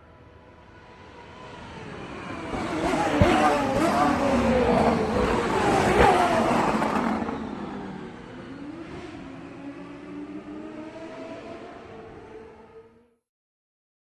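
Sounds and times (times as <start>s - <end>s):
race car engine passing by: 1.0s - 13.1s.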